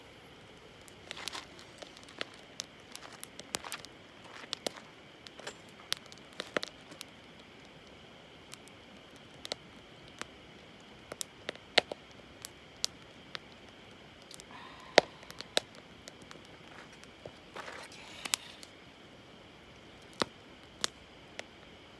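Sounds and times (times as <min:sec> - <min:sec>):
low steady hiss: 0:00.0 - 0:21.9
campfire crackling and popping: 0:00.1 - 0:21.9.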